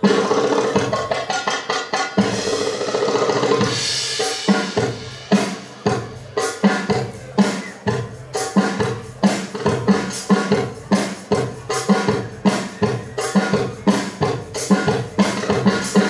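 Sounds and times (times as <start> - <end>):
darbuka drum strokes: 0.0 - 16.0.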